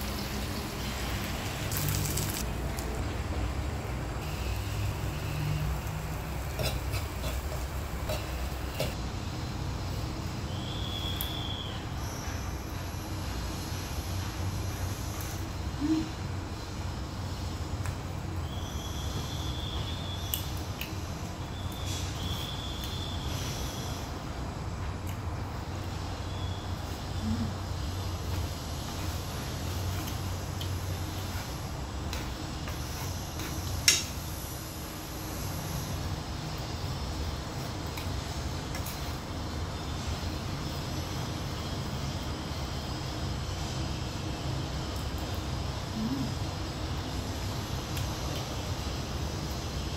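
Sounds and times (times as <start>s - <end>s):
low rumbling background noise: 0.0s - 49.9s.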